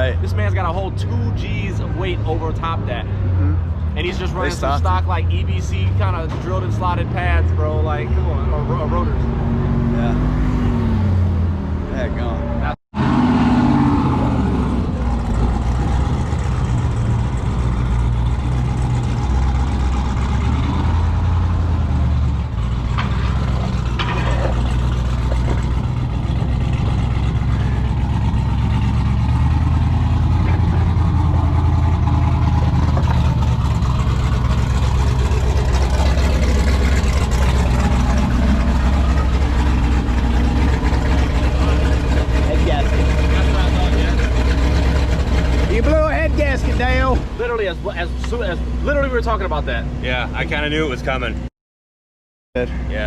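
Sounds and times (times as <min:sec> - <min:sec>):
vehicle engine droning: 0:00.0 - 0:51.5.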